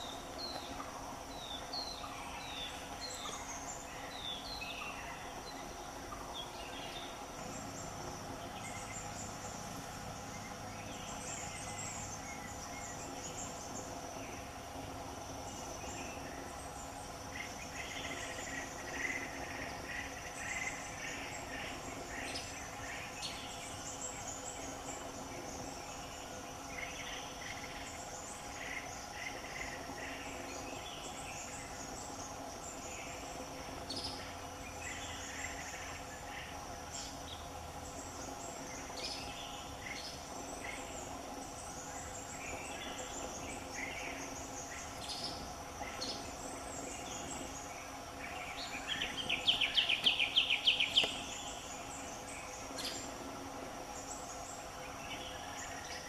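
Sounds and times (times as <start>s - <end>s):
birds chirping: 0.0s - 56.0s
high insect drone: 0.0s - 56.0s.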